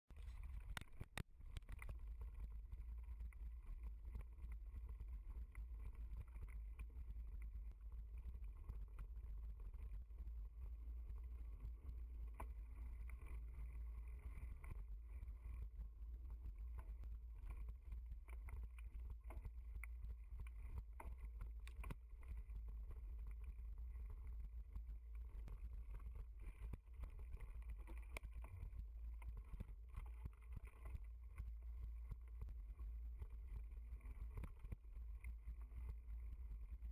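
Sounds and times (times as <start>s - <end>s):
wind and tyre rumble: 0.1s - 36.9s.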